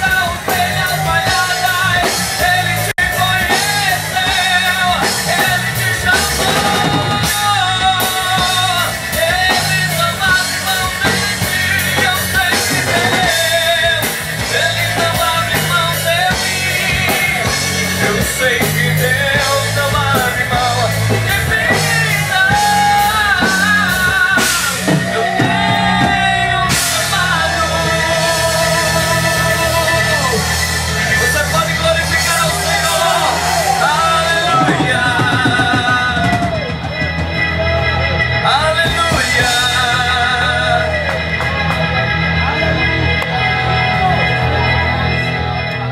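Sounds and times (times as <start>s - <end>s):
drum kit: 0.0s - 45.9s
lead voice singing: 0.0s - 45.9s
rock band playing live: 0.0s - 45.9s.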